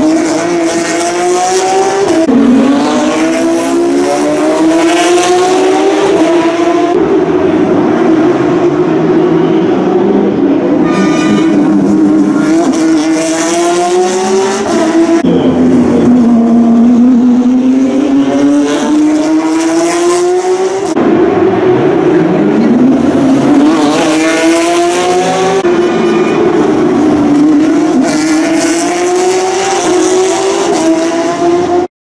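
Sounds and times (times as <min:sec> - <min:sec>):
race car engines at high revs: 0:00.0 - 0:09.2, 0:11.4 - 0:31.9.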